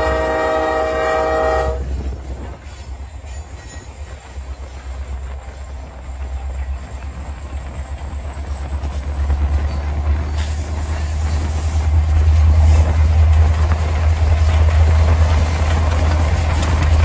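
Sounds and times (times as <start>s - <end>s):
diesel locomotives running: 0.0s - 17.0s
road and wind noise: 1.8s - 17.0s.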